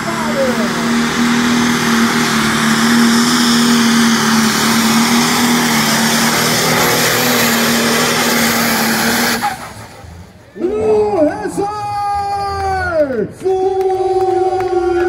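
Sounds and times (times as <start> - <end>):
diesel tractor engine roaring: 0.0 - 15.0.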